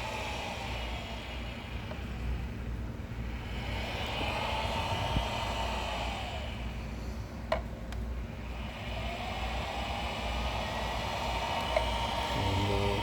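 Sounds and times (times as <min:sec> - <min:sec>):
fans whirring: 0:00.0 - 0:13.0.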